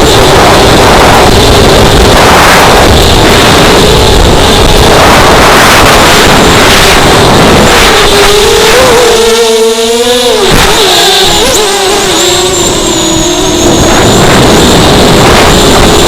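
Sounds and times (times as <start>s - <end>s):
loud rushing noise: 0.0s - 16.0s
quadcopter motors whining: 0.0s - 16.0s.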